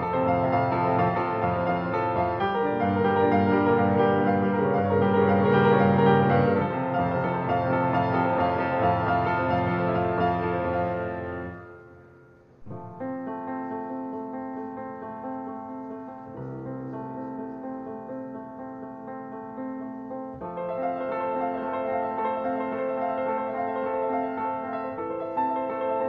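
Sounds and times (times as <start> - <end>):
piano playing slow chords: 0.0 - 26.0.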